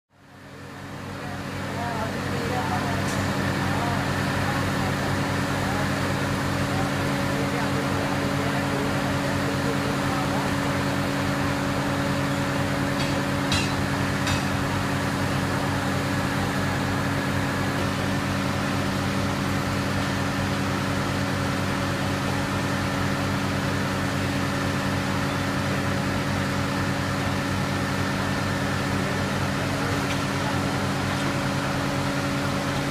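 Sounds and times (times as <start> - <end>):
concrete pump drone: 0.1 - 32.9.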